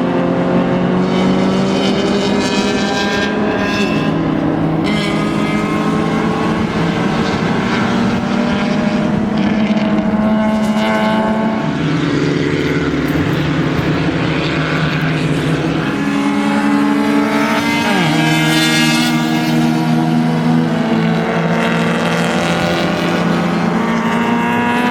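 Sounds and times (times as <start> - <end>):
racing car engines revving: 0.0 - 24.9.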